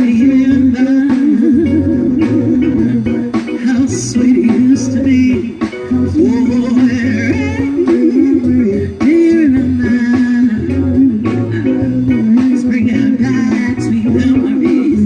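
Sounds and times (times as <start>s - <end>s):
bass line: 0.0s - 15.0s
sliding lead melody: 0.0s - 15.0s
steady drum beat: 0.0s - 15.0s.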